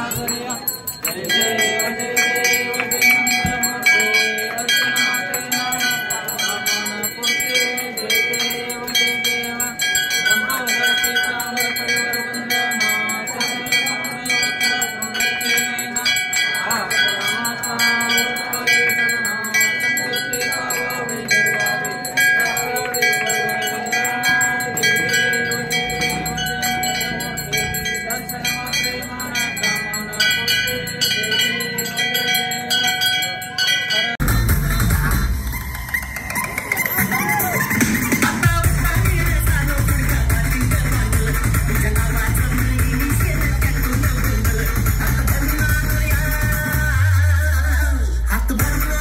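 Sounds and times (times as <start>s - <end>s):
bells ringing rapidly: 0.0s - 49.0s
voices singing: 0.0s - 49.0s.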